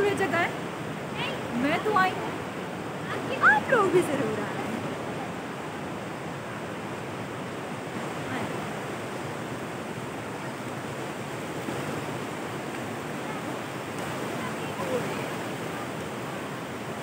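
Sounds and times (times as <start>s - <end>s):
stream rushing over boulders: 0.0s - 17.0s.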